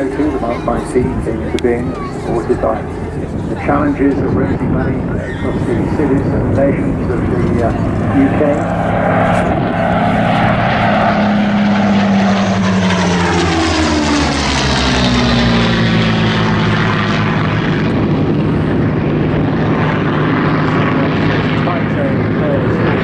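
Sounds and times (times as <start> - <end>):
propeller aircraft engines flying past: 0.0 - 23.0.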